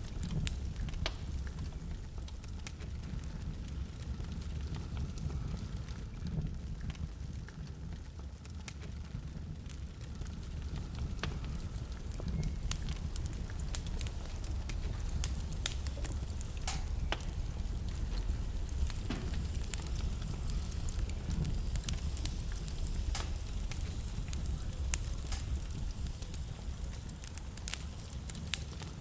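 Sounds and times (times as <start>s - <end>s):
fire flames rumbling: 0.0s - 29.0s
wood crackling and popping: 0.0s - 29.0s.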